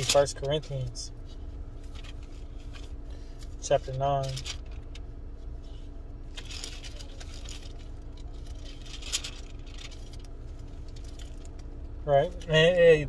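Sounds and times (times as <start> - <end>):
low car interior hum: 0.0 - 13.0.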